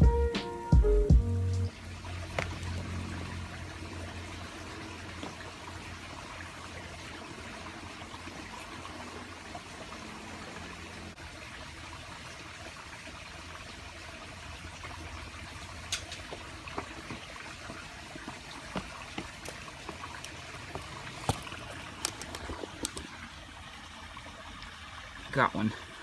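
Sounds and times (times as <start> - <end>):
creek trickling over rocks: 1.7 - 26.0.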